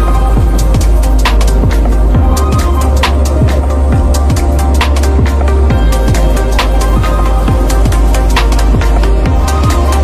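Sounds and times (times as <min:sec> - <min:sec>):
electronic dance music: 0:00.0 - 0:10.0
heavy bass line: 0:00.0 - 0:10.0
kick drum beat: 0:00.0 - 0:10.0.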